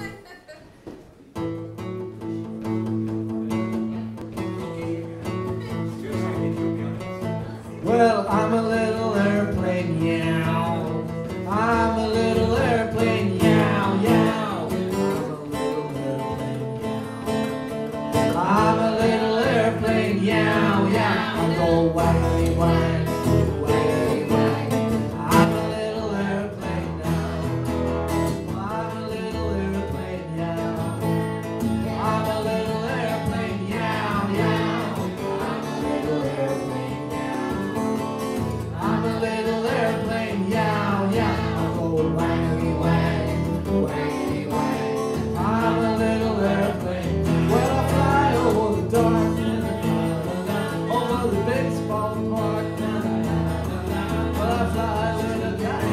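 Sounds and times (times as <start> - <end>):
acoustic guitar strumming: 1.1 - 55.9
person singing folk song: 1.4 - 55.9.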